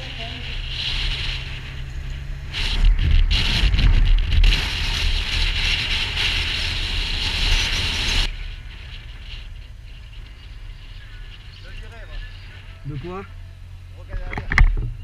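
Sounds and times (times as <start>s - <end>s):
wind buffeting microphone: 0.0s - 13.0s
motorcycle engine rumble: 0.0s - 15.0s.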